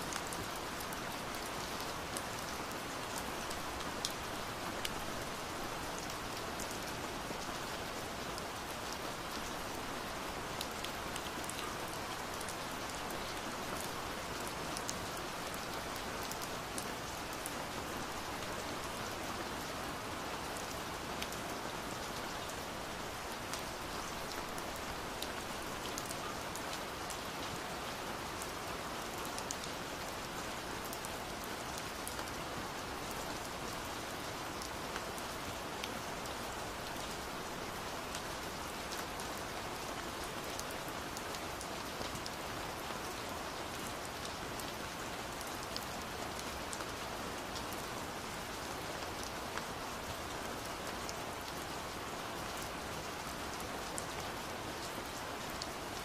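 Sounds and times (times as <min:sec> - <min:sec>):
raindrops ticking on a surface: 0:00.1 - 0:56.0.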